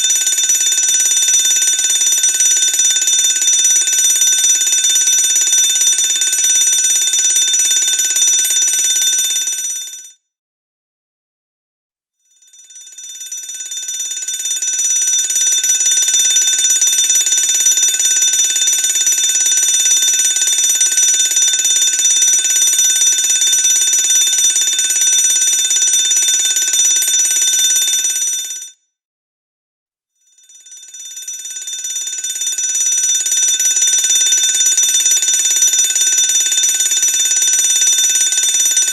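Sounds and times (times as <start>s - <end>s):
fire alarm bell ringing: 0.0s - 9.9s, 12.4s - 28.7s, 30.4s - 38.9s.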